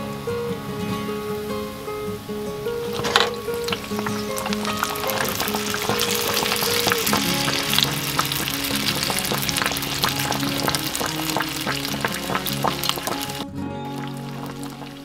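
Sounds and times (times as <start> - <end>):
background music: 0.0 - 15.0
bread deep-frying in oil: 2.5 - 15.0.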